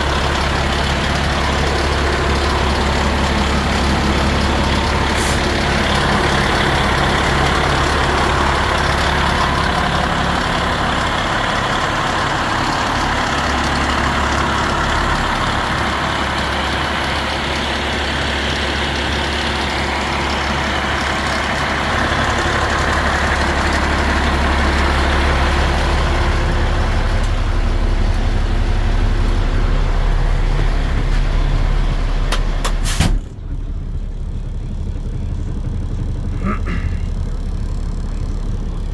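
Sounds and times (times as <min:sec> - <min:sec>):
garbage truck diesel engine running: 0:00.0 - 0:38.9.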